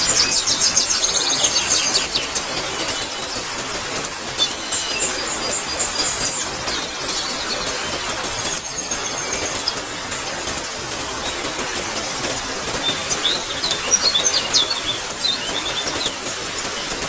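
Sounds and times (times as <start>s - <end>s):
birds chirping: 0.0s - 17.0s
steady rain falling: 0.0s - 17.0s.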